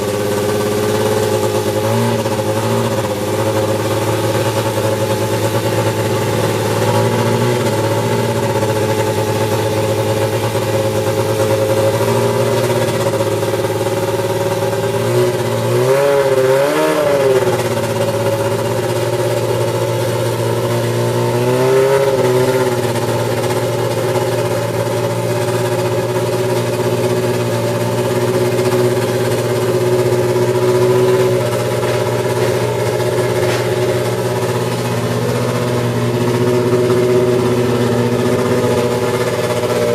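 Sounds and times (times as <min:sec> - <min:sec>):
engine throttle blips: 0:00.0 - 0:39.9
racing engine idling: 0:00.0 - 0:39.9.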